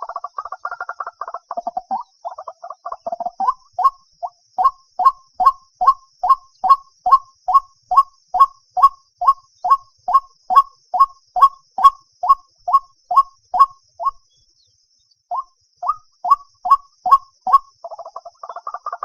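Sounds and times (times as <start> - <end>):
bird calling: 0.0 - 14.3, 15.3 - 19.0.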